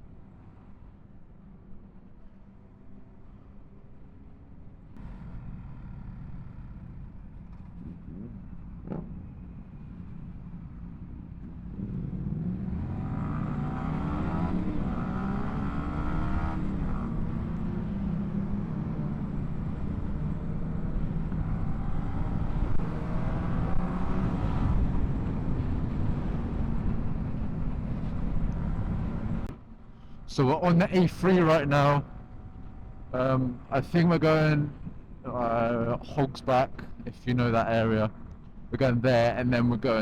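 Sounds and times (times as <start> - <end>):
wind and road rush: 0.0 - 40.0
motorcycle engines accelerating: 5.0 - 29.6, 30.3 - 40.0.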